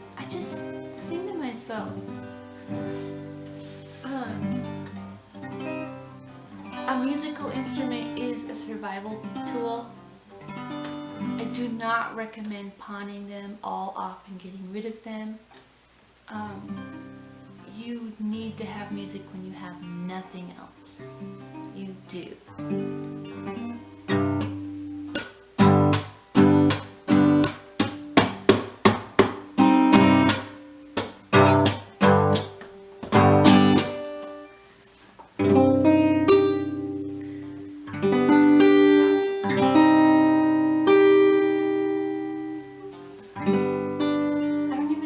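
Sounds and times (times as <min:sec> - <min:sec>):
acoustic guitar strumming: 0:00.0 - 0:12.1, 0:16.4 - 0:17.7, 0:18.3 - 0:45.0.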